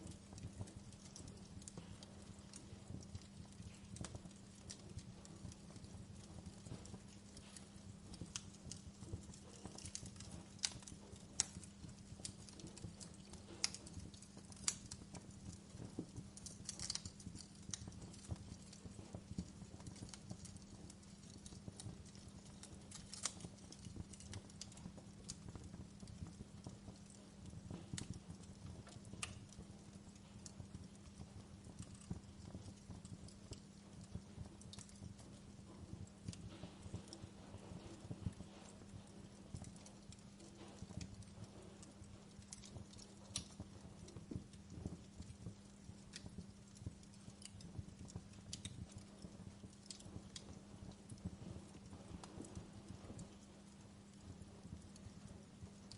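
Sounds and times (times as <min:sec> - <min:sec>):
low steady hum: 0:00.0 - 0:55.9
wood fire crackling and popping: 0:00.0 - 0:55.9.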